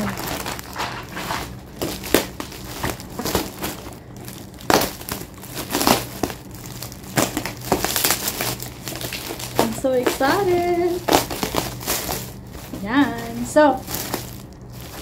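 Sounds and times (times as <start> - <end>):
plastic packaging crinkling: 0.0 - 15.0
scissors cutting plastic: 0.0 - 15.0.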